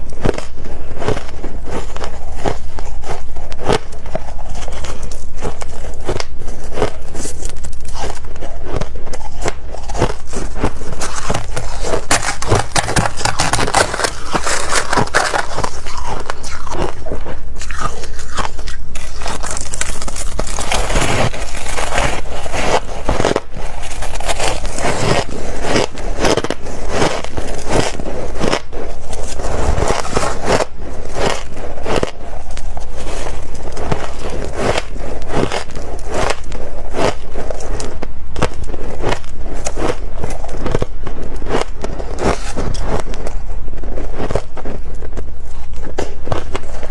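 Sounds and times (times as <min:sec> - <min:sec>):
crunching ice between teeth: 0:00.0 - 0:46.9.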